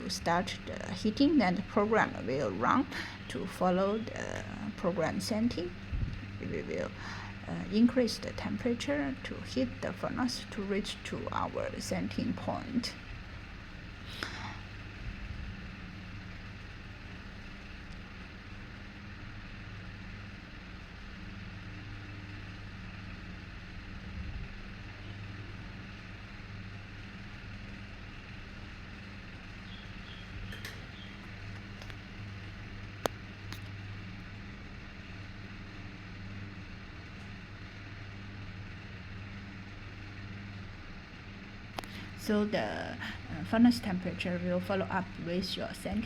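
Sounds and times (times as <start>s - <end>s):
furnace electrical hum: 0.0s - 46.0s.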